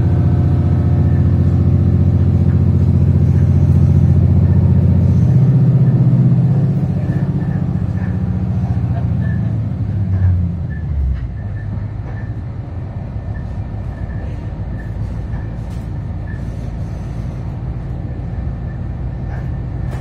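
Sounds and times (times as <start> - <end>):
diesel engine hum: 0.0 - 20.0
railcar running rumble: 0.0 - 20.0.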